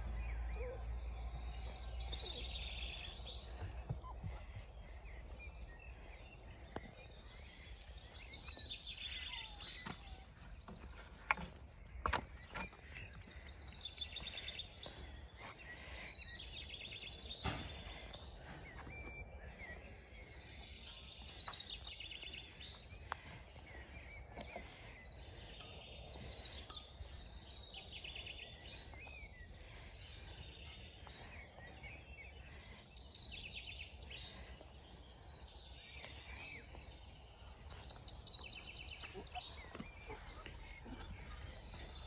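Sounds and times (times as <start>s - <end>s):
birds singing and chirping: 0.0s - 42.0s.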